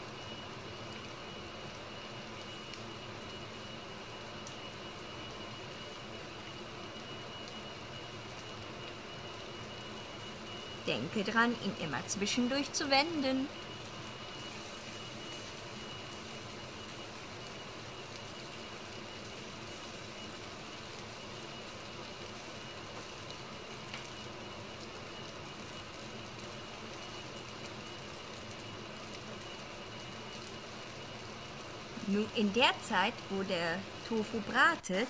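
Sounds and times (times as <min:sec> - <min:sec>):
tofu sizzling in hot oil: 0:00.0 - 0:34.8.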